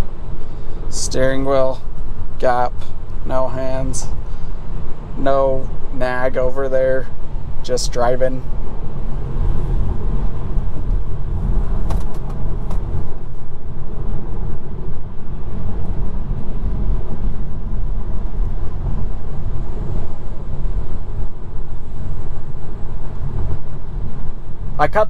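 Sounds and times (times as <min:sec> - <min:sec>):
road and tyre rumble in car: 0:00.0 - 0:25.0.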